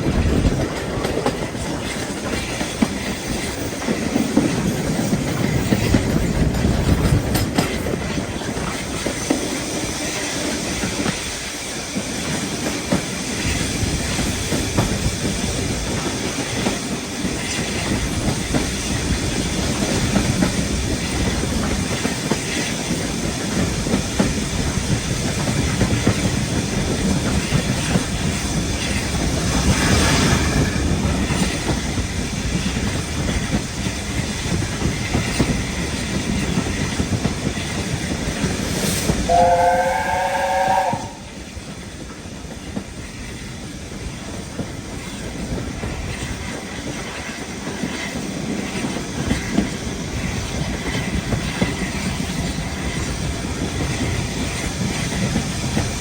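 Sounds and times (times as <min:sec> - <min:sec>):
passenger train running on track: 0:00.0 - 0:56.0.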